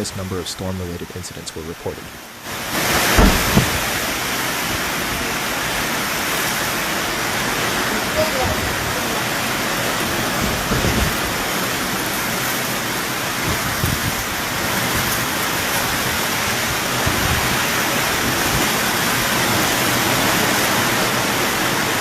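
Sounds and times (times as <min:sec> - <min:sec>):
heavy rain pouring: 0:00.0 - 0:22.0
wind buffeting microphone: 0:02.0 - 0:20.6.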